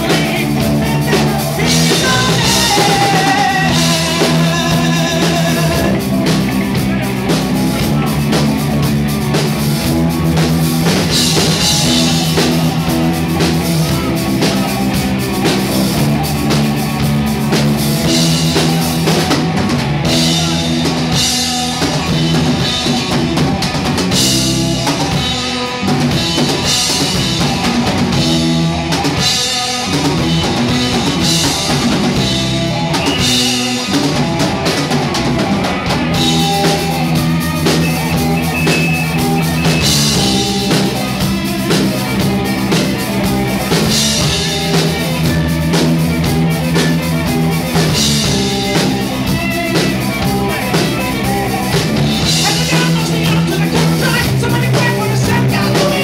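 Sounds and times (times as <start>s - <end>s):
drum kit beat: 0.0s - 56.0s
electric bass: 0.0s - 56.0s
electric guitar: 0.0s - 56.0s.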